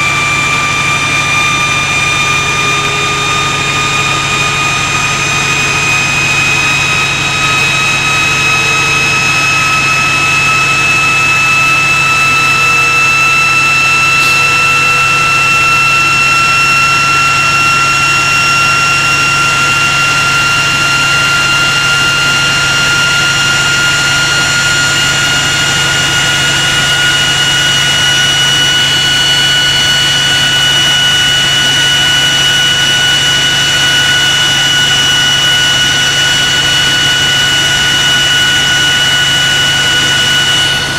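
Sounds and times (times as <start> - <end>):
high whine rising in pitch: 0.0 - 40.9
locomotive engine droning: 0.0 - 40.9.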